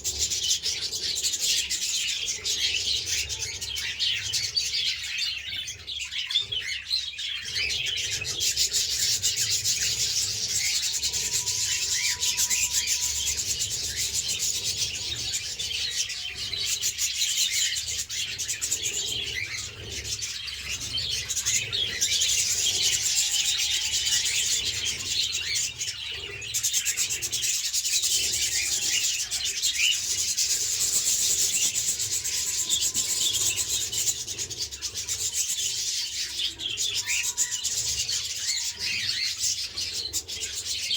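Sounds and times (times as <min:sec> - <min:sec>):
parakeets chattering: 0:00.0 - 0:40.9.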